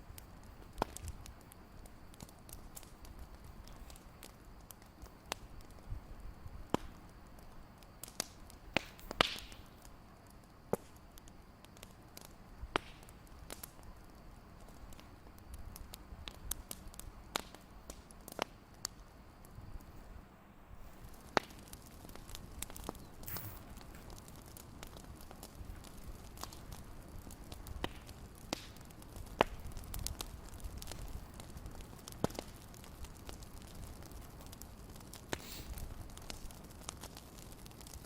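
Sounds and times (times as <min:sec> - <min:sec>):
fireplace crackling: 0:00.0 - 0:38.0
low steady hiss: 0:00.0 - 0:38.0.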